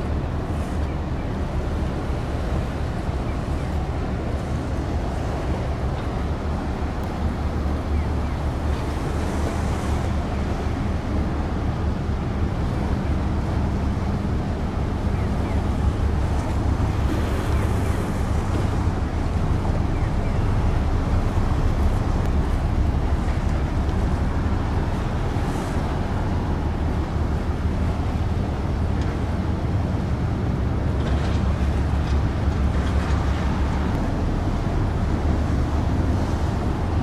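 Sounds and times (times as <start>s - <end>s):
ship engine droning: 0.0s - 37.0s.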